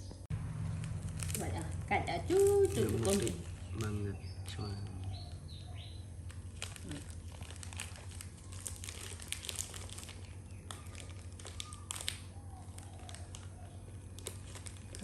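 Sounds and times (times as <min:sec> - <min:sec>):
low steady hum: 0:00.0 - 0:15.0
plastic packaging crinkling: 0:00.6 - 0:15.0.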